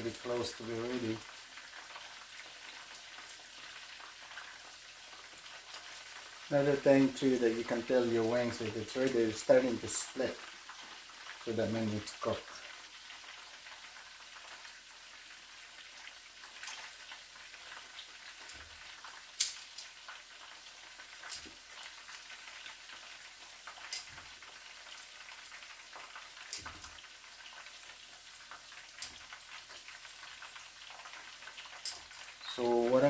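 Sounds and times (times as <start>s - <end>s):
chicken frying in oil: 0.0s - 33.0s
oil popping and crackling: 0.0s - 33.0s.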